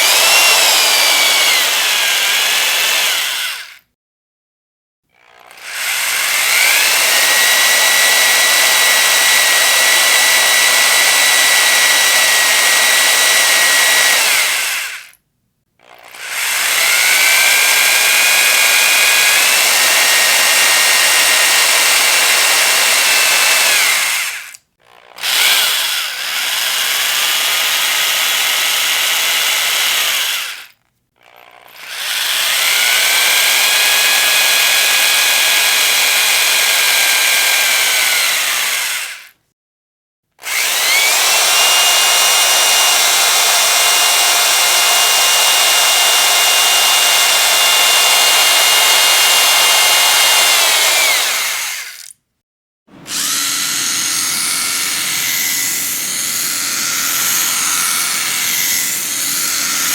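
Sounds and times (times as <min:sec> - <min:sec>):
electric drill whining: 0:00.0 - 0:03.8, 0:05.1 - 0:15.2, 0:15.8 - 0:39.4, 0:40.4 - 0:52.2, 0:52.9 - 0:59.9.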